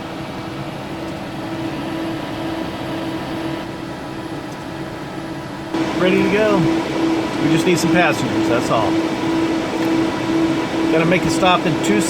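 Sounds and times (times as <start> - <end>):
ventilation fan hum: 0.0 - 12.0.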